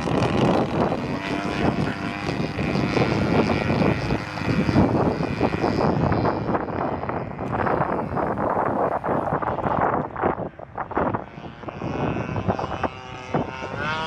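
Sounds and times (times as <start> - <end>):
model plane engine buzzing: 0.0 - 14.0.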